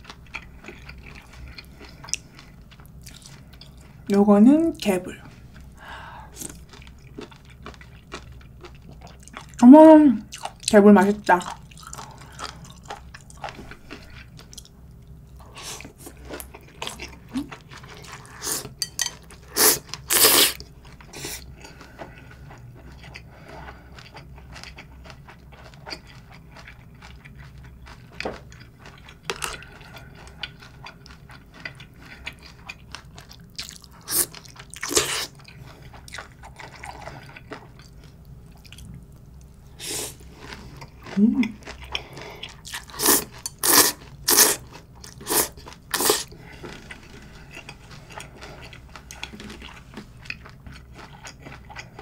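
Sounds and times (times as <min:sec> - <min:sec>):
chewing and crunching food: 0:00.0 - 0:04.1, 0:05.2 - 0:09.6, 0:10.2 - 0:52.0.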